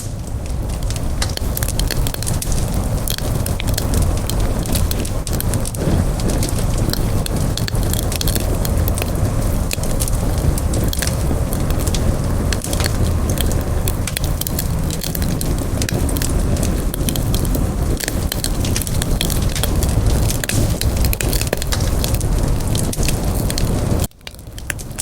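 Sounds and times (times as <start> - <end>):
campfire crackling and popping: 0.0 - 25.0
low rumble of burning: 0.0 - 25.0.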